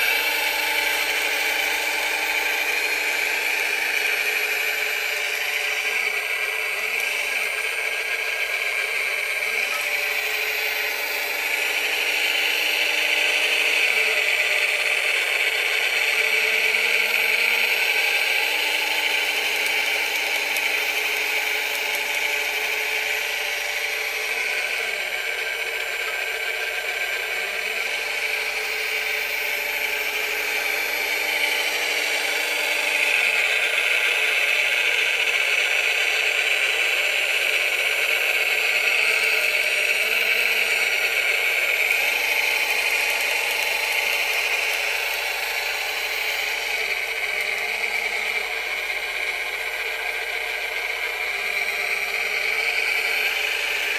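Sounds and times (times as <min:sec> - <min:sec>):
high electric motor whine: 0:00.0 - 0:53.9.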